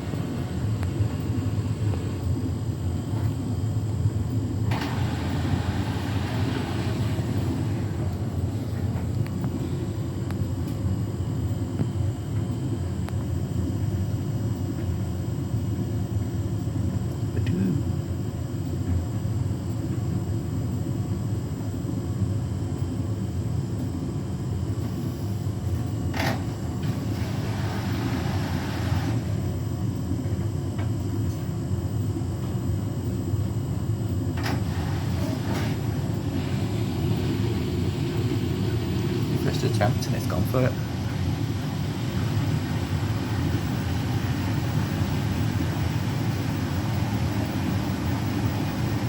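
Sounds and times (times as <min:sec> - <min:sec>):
washing machine rumbling: 0:00.0 - 0:49.0.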